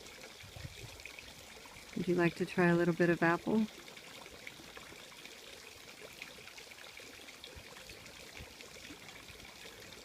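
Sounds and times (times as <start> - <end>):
faint fountain trickling: 0.0 - 10.0.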